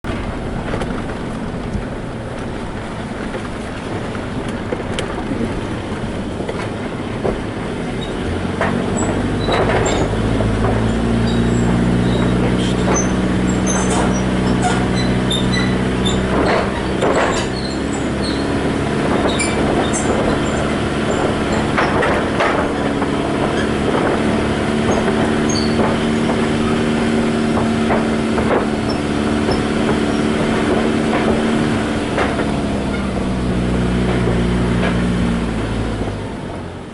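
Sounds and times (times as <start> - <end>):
knocks and clatters under wheels: 0.0 - 36.9
vehicle engine running: 0.0 - 36.9
bridge squeaking: 0.1 - 36.9.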